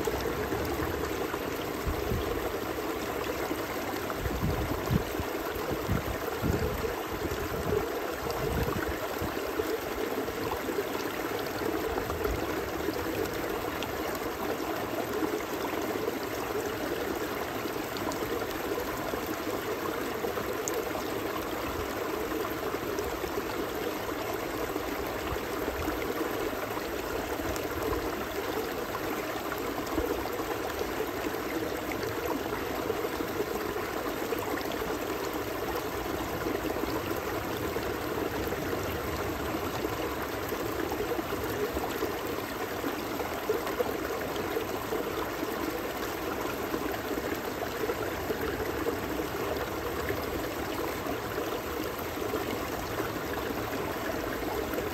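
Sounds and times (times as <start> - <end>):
stream babbling over rocks: 0.0 - 54.9.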